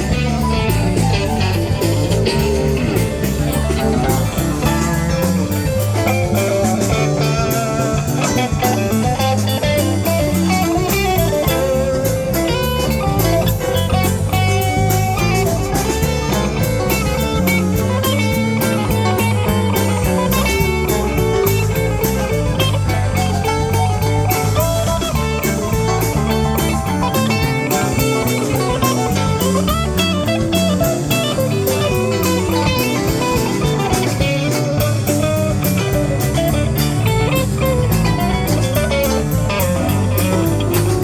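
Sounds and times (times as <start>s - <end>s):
bass line: 0.0s - 41.0s
drum kit beat: 0.0s - 41.0s
electric guitar playing: 0.0s - 41.0s.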